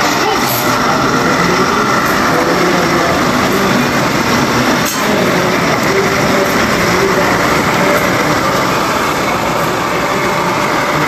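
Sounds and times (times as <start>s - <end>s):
model trains running: 0.0s - 11.0s
room hubbub: 0.0s - 11.0s.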